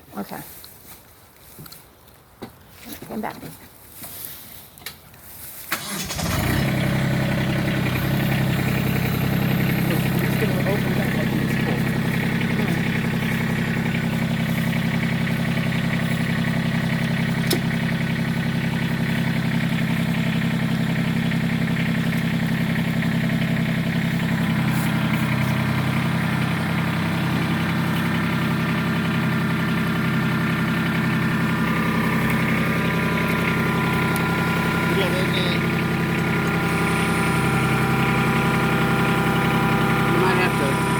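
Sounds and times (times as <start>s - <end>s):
tractor diesel engine idling: 5.3s - 40.9s.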